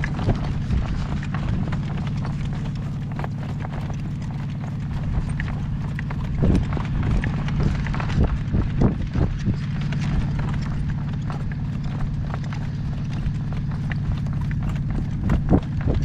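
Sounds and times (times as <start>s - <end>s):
horse hooves clip-clopping: 0.0s - 16.0s
low rumbles: 0.0s - 16.0s.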